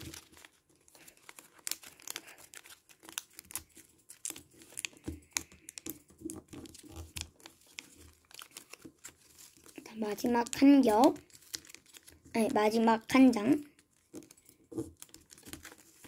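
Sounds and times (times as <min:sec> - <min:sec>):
sharp paper clicks: 0:00.0 - 0:12.8, 0:13.7 - 0:16.0
paper crinkling: 0:00.0 - 0:16.0.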